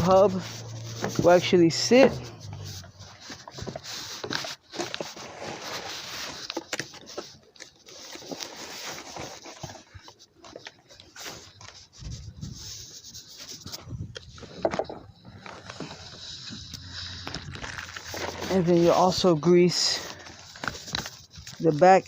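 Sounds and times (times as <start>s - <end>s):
hand scraping metal hub: 0.0s - 7.4s, 11.1s - 22.0s.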